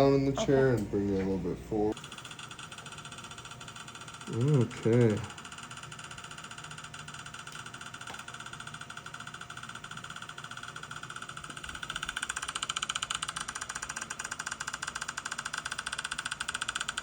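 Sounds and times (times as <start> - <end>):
small motor buzzing: 0.0 - 17.0.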